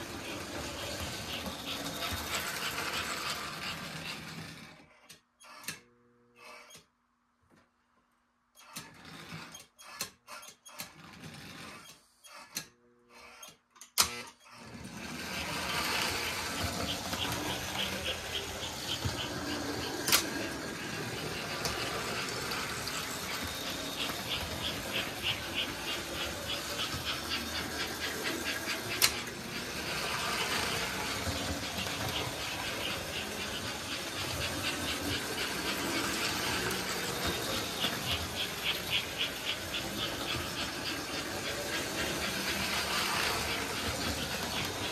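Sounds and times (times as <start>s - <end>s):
toy train wheels clattering: 0.0s - 5.8s, 8.6s - 13.6s, 14.3s - 44.9s
toy train motor whirring: 0.0s - 7.0s, 8.5s - 44.9s.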